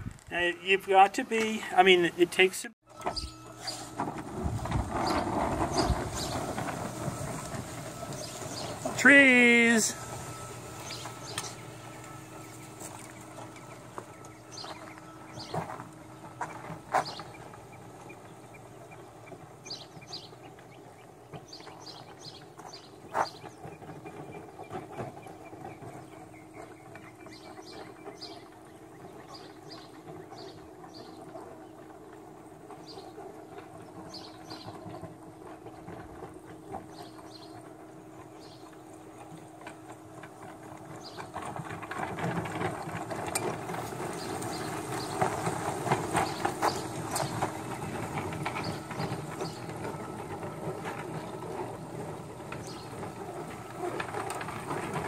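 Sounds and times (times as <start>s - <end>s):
toy train wheels rattling on rails: 2.9s - 55.0s.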